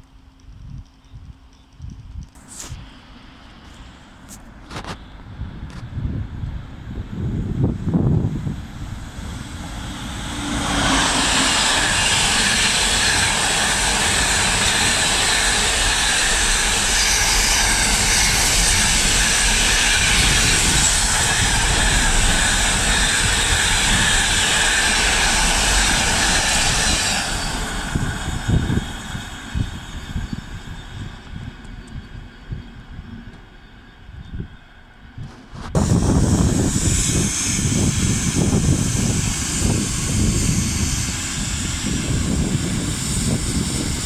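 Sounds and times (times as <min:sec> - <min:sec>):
freight train passing: 0:02.4 - 0:44.0.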